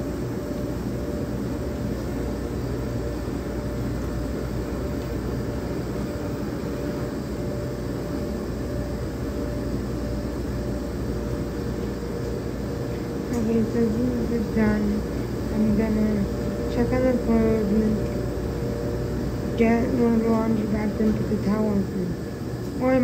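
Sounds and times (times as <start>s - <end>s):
clothes dryers tumbling: 0.0s - 23.0s.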